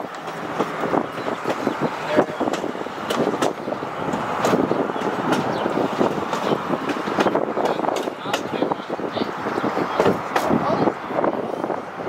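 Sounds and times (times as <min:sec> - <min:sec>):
wheels clicking and clanking: 0:00.0 - 0:10.9
train car rumbling on track: 0:00.0 - 0:12.0.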